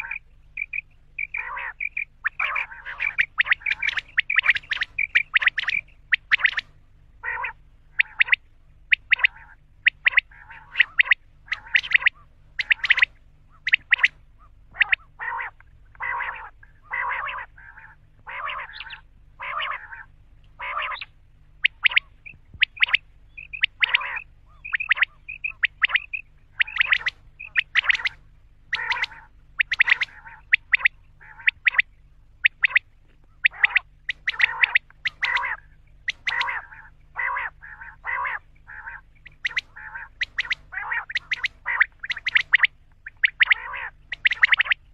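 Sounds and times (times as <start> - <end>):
quail calling: 0.0 - 44.9.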